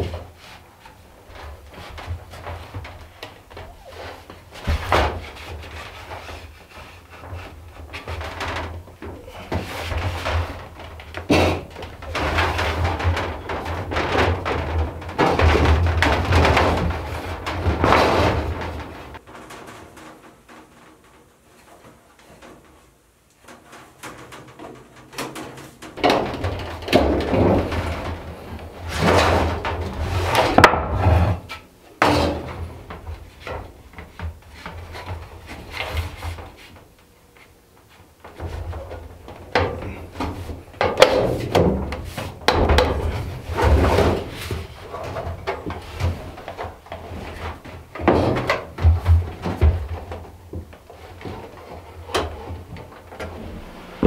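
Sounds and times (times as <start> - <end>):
metal sheet flexing and rattling: 0.0 - 54.0.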